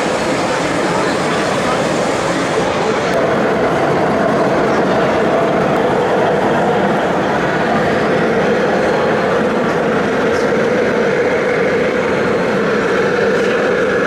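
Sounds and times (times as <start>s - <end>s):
machine running with hum: 0.0s - 14.0s.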